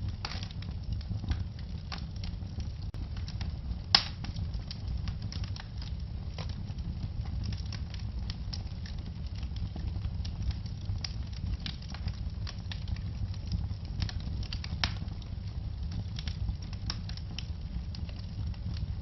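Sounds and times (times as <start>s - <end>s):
fire crackling and popping: 0.0s - 19.0s
fire rumbling: 0.0s - 19.0s.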